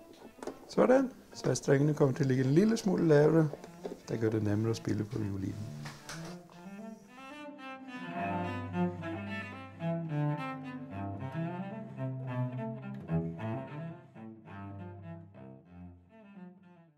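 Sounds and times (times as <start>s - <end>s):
bowed strings playing melody: 0.0s - 16.9s.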